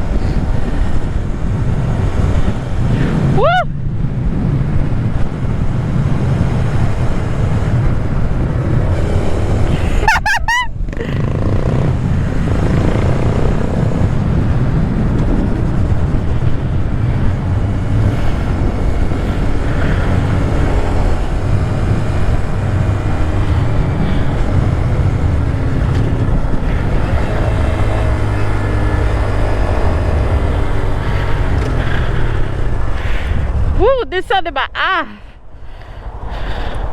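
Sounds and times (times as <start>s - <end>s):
motorcycle engine running: 0.0s - 33.8s
wind buffeting microphone: 0.0s - 36.9s.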